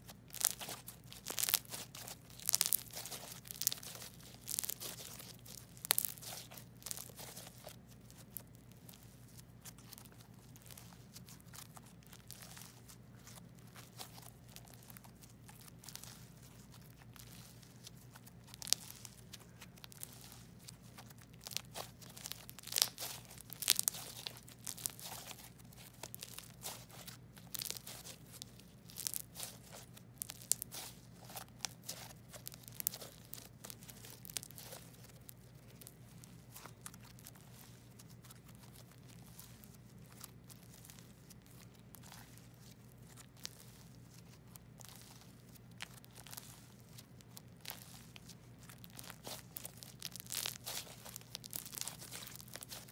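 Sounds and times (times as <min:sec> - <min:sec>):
slime squeezed sticky crackles: 0:00.0 - 0:52.9.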